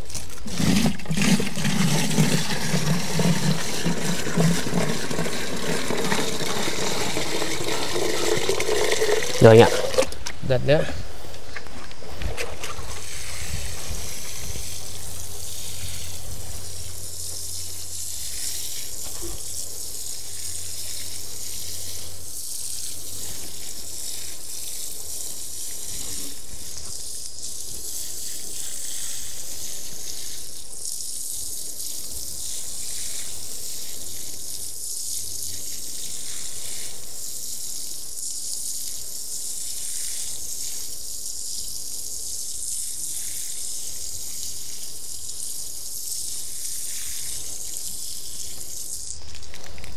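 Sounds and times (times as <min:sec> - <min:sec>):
water pouring onto soil: 0:00.0 - 0:10.8, 0:12.5 - 0:49.9.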